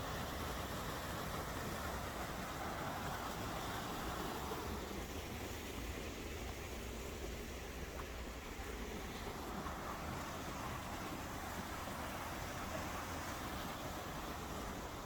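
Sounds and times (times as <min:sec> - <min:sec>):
stream water rushing over cascade: 0:00.0 - 0:15.0.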